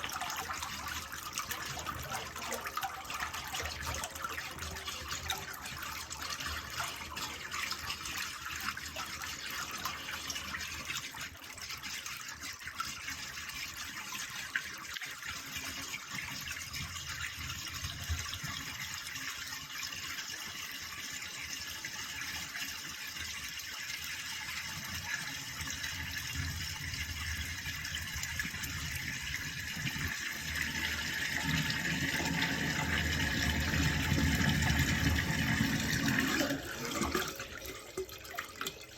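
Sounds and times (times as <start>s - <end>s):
water rushing from drain pipe: 0.0s - 38.9s.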